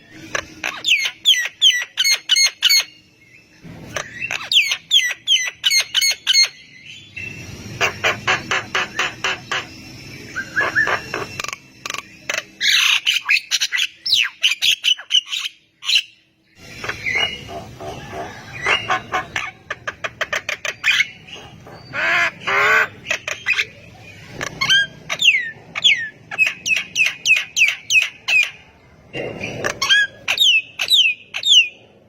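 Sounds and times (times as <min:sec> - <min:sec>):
myna bird singing: 0:00.0 - 0:32.0.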